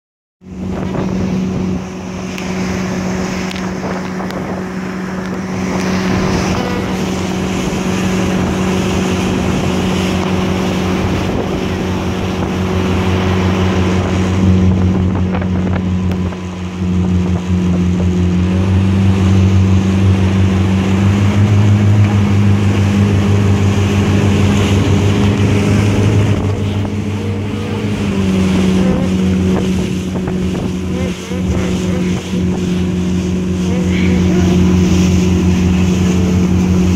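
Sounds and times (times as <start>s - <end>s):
motorboat engine running: 0.4s - 36.9s
rushing water: 0.4s - 36.9s
wind noise: 0.5s - 36.9s.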